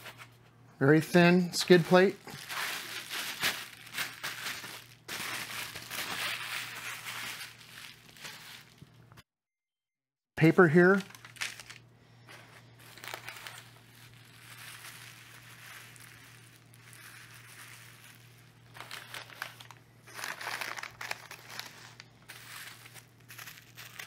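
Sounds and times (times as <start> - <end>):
bubble wrap and paper crinkling: 1.6 - 9.0, 10.9 - 24.0.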